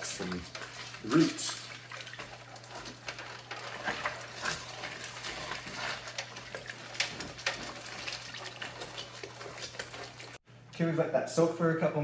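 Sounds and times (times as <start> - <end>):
water sloshing in a sink: 0.0 - 10.4.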